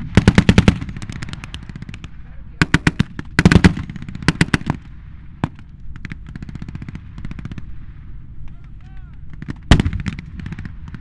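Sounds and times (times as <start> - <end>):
gunshots: 0.0 - 7.7, 8.4 - 11.0.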